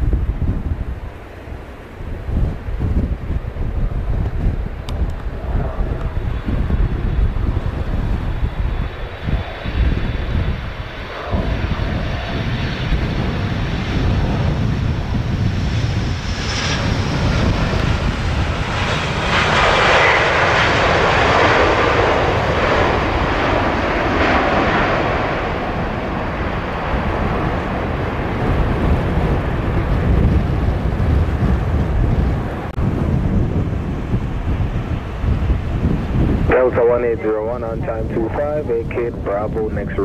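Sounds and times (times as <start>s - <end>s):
jet engines on approach: 0.0s - 40.0s
jet reverse thrust roar: 0.0s - 40.0s.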